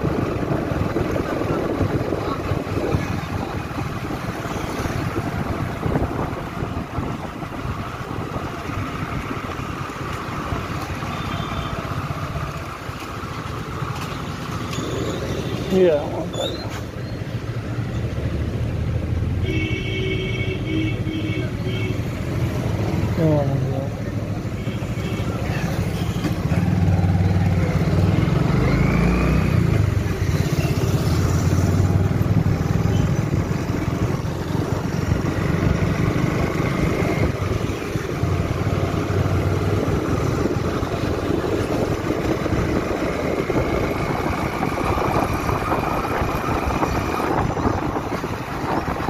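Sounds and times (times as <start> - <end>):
road and wind noise: 0.0 - 49.0.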